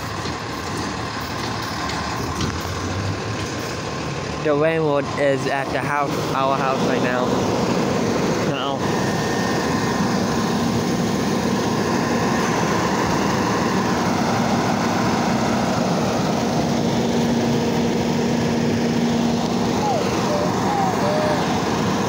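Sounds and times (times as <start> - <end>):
garbage truck engine idling: 0.0 - 22.0.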